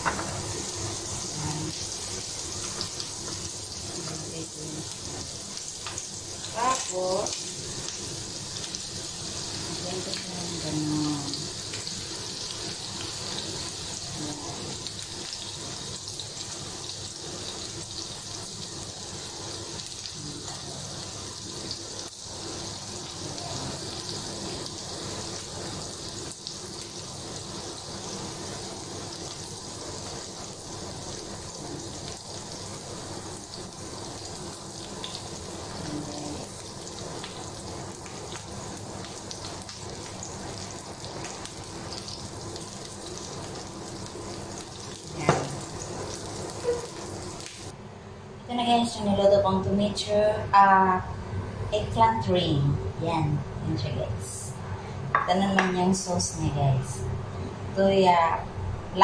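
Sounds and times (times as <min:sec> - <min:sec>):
oil sizzling in frying pan: 0:00.0 - 0:47.9.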